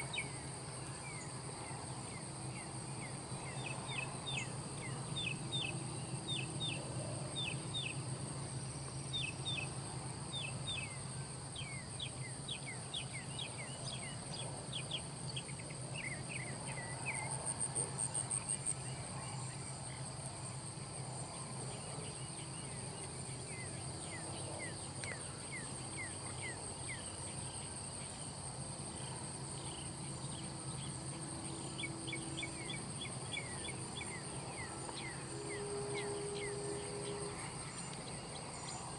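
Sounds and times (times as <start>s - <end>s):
crickets droning: 0.0s - 38.9s.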